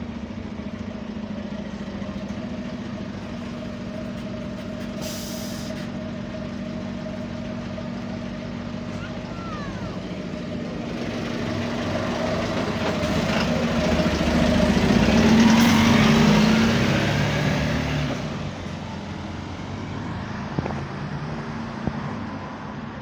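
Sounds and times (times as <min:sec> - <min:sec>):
bus engine accelerating: 0:00.0 - 0:23.0.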